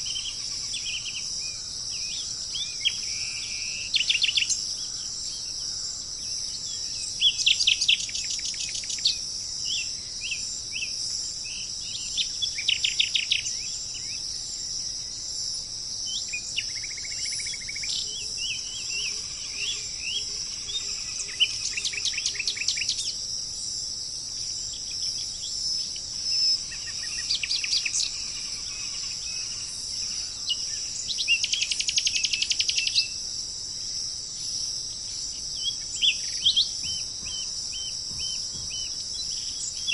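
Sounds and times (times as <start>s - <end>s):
insect chorus: 0.0s - 39.9s
songbirds chirping: 0.0s - 39.9s.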